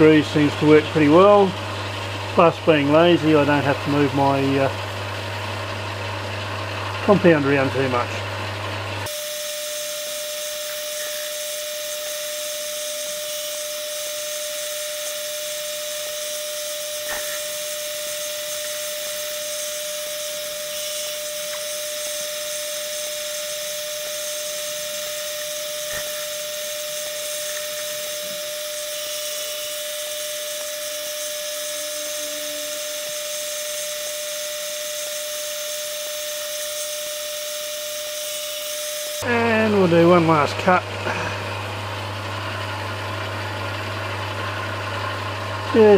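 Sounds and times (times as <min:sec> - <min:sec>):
metal lathe whining: 0:00.0 - 0:45.9.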